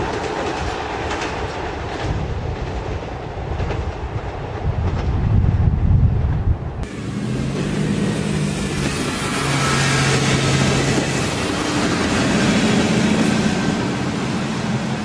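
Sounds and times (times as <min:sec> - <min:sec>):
diesel railcar engine hum: 0:00.0 - 0:15.0.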